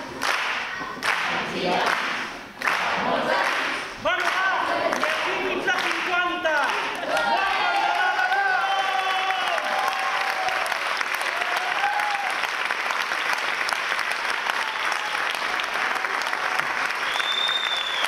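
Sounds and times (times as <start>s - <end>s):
audience applauding: 0.2s - 18.0s.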